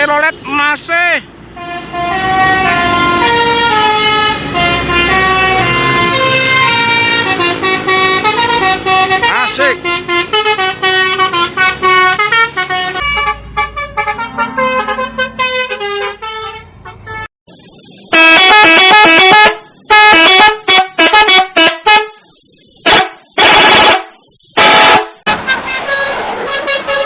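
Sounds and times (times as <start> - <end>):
loud multi-tone horn blasts: 1.5 - 17.3, 18.1 - 27.0
musical bus air horns: 1.5 - 17.3, 18.1 - 27.0.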